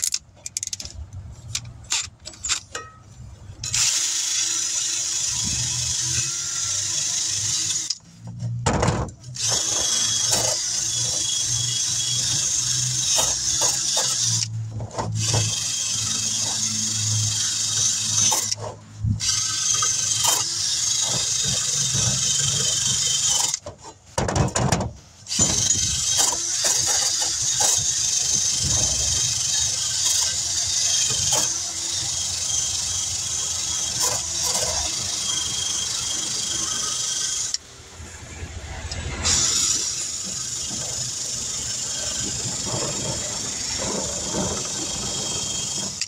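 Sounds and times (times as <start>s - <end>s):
power wire brush whirring: 3.6s - 8.6s, 9.2s - 23.7s, 25.2s - 46.0s.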